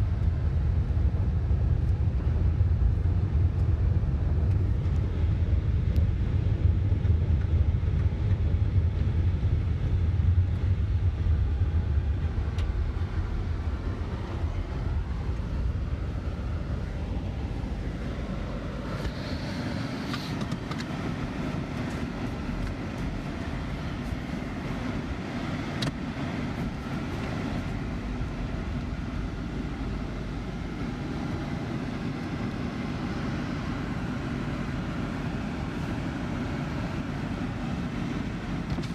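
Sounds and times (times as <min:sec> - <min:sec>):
road rumble inside vehicle: 0:00.0 - 0:38.9
vehicle running noise: 0:00.0 - 0:38.9.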